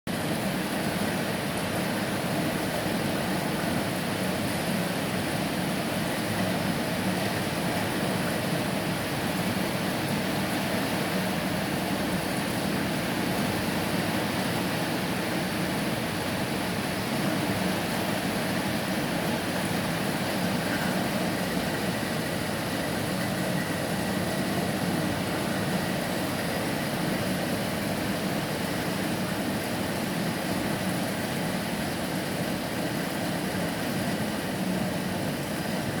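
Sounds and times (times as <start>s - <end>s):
steady rain: 0.1s - 36.0s.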